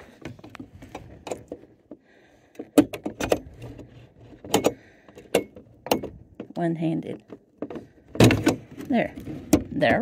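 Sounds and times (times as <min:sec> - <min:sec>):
sharp metallic clicks and knocks: 0:00.2 - 0:08.9.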